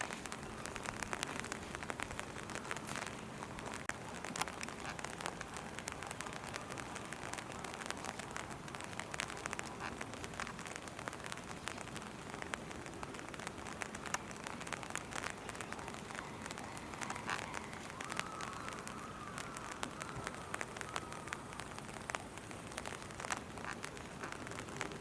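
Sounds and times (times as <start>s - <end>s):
raindrops ticking: 0.0s - 25.0s
steady rain: 0.0s - 25.0s.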